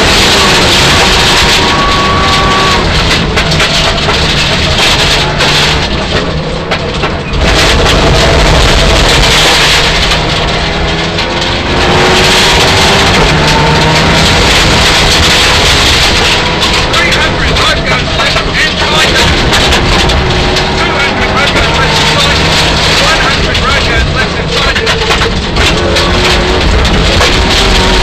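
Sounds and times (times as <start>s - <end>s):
car engine revving through gears: 0.0s - 28.0s
road and tyre noise: 0.0s - 28.0s.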